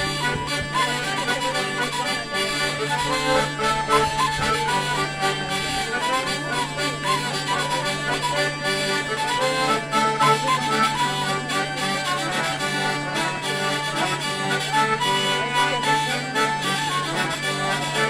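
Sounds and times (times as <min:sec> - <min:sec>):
button accordion playing: 0:00.0 - 0:18.0
hurdy-gurdy playing: 0:00.0 - 0:18.0.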